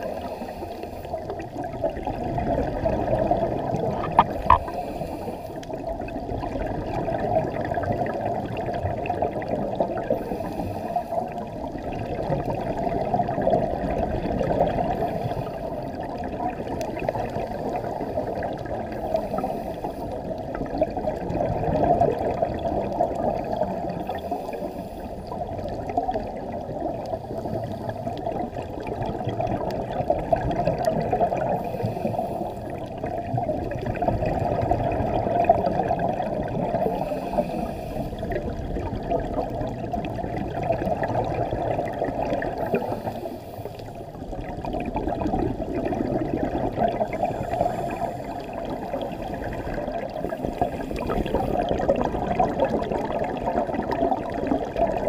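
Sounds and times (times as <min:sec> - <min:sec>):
diver's exhaled bubbles gurgling: 0:00.0 - 0:55.0.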